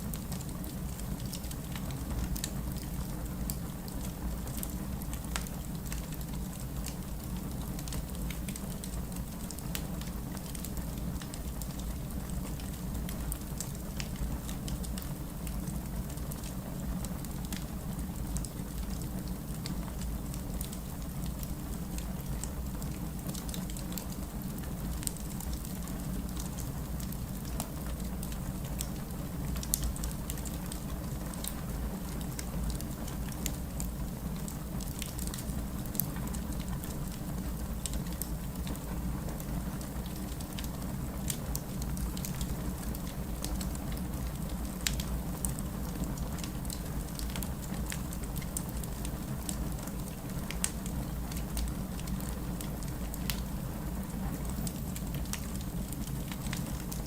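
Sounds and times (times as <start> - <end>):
steady rain: 0.0 - 57.0
wood fire crackling and popping: 0.1 - 57.0.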